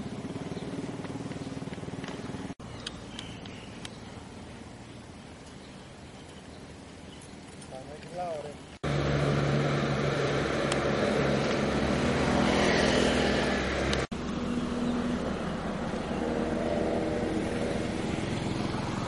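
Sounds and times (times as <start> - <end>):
vehicle engine running: 0.0 - 5.0, 8.6 - 19.0.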